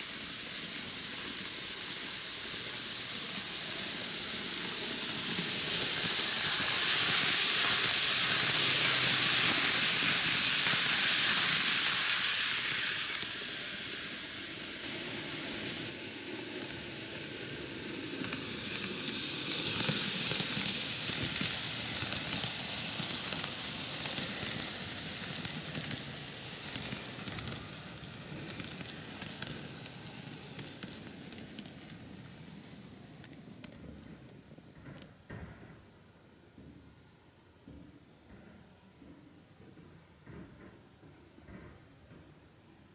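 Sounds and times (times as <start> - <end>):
model train rolling on track: 0.0 - 35.2.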